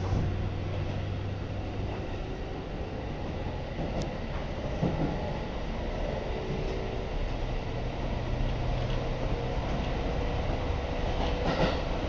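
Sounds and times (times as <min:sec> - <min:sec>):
train wheels running noise: 0:00.0 - 0:12.0.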